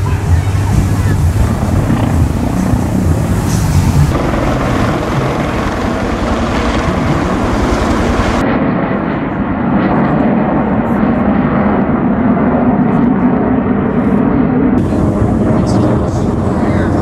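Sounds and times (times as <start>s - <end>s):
aircraft engine: 0.0s - 17.0s
helicopter flying overhead: 0.0s - 17.0s.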